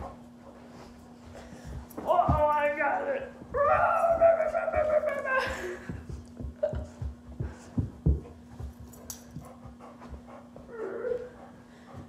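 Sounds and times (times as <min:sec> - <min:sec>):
dog panting: 0:00.0 - 0:02.0, 0:04.3 - 0:12.0
feet and paws thudding on carpet: 0:00.0 - 0:12.0.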